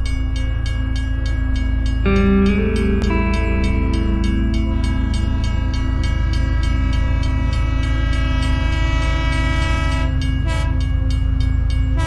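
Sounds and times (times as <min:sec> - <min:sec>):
held chords over heavy bass: 0:01.8 - 0:12.0.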